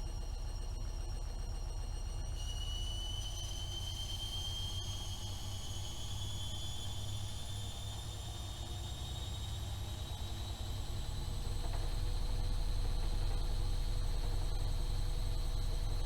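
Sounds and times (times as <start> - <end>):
washing machine drum motor whine: 0.0 - 16.0.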